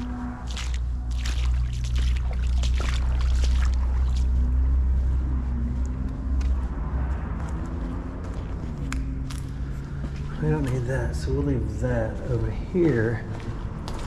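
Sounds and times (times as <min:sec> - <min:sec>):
traffic rumble on road: 0:00.0 - 0:14.0.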